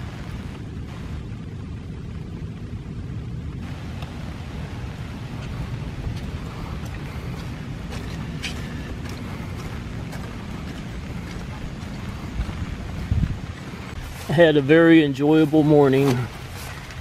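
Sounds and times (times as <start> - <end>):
rain hissing: 0.0 - 17.0
wind rumbling on microphone: 0.0 - 17.0.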